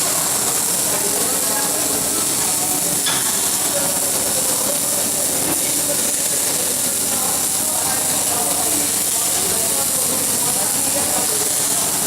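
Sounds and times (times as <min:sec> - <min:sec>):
welding arc hissing: 0:00.0 - 0:12.0.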